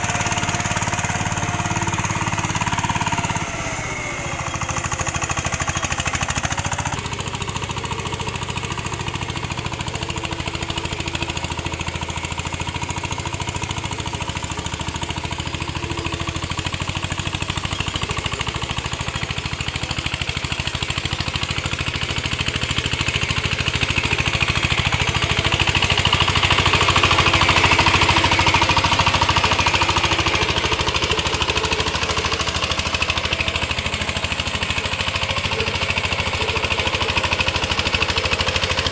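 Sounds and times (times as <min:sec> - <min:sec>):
tiller engine chugging: 0:00.0 - 0:38.9.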